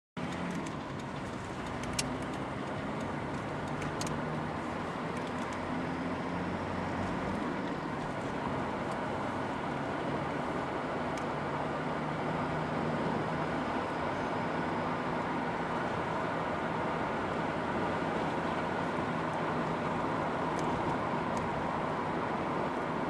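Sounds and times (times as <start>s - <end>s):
car engine and road noise: 0.2s - 23.0s.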